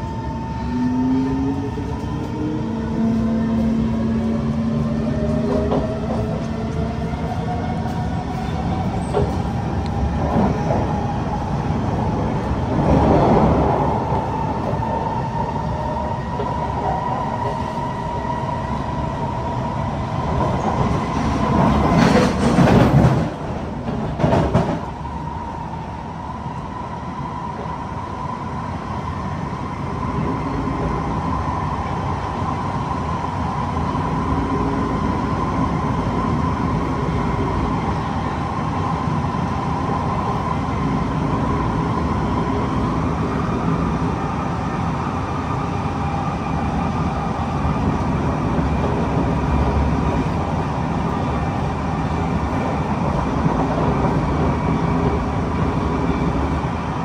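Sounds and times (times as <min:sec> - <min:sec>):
steady train whine: 0:00.0 - 0:57.0
train wheels rumbling on rail: 0:00.0 - 0:57.0.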